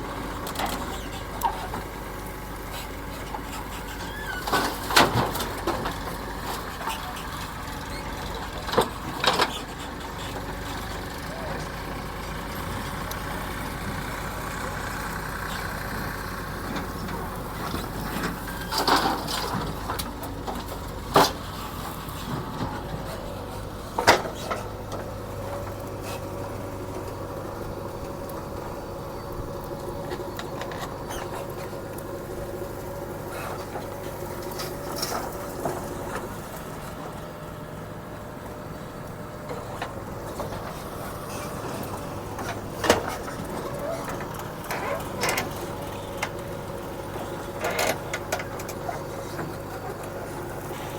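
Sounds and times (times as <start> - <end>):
backhoe engine running: 0.0 - 50.9.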